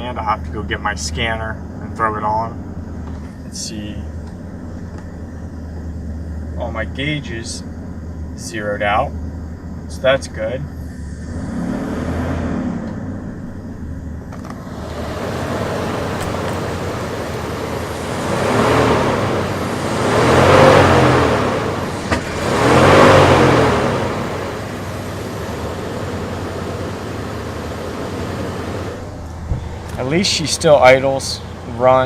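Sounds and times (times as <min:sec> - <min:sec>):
truck engine idling and revving: 0:00.0 - 0:32.0.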